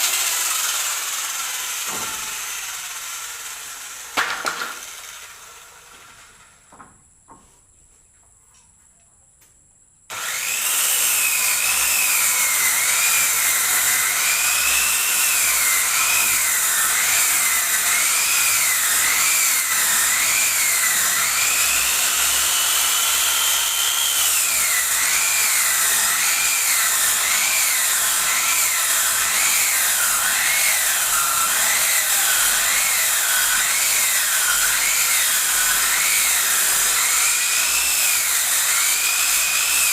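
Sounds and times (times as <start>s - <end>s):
circular saw ripping wood: 0.0s - 6.6s, 10.1s - 39.9s.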